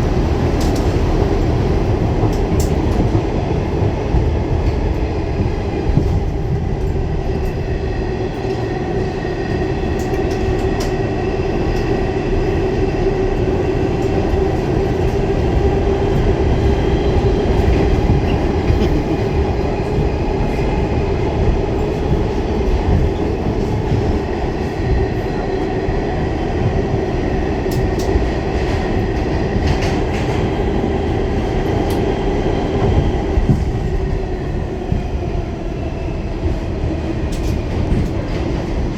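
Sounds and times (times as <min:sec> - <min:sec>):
wheels rumbling on rail: 0:00.0 - 0:38.9.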